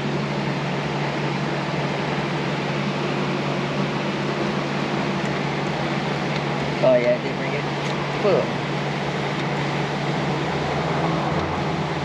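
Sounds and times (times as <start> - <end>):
fan rushing hiss and hum: 0.0 - 12.0.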